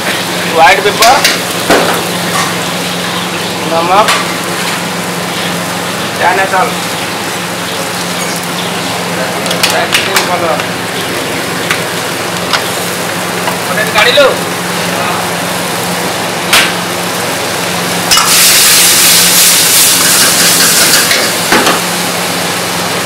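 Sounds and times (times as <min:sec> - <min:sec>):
vegetables sizzling in a wok: 0:00.0 - 0:23.0.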